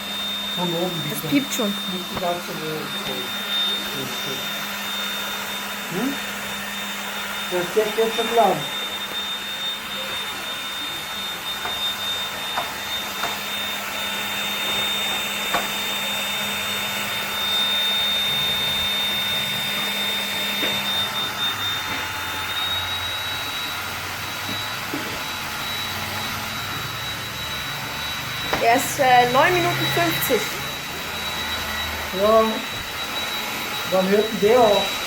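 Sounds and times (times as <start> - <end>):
stick vacuum whining: 0.0 - 35.0.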